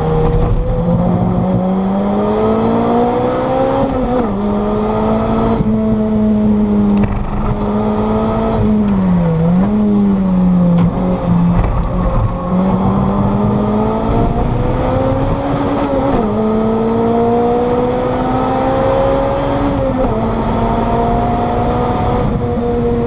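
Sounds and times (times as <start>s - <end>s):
car engine accelerating with upshifts: 0.0s - 23.0s.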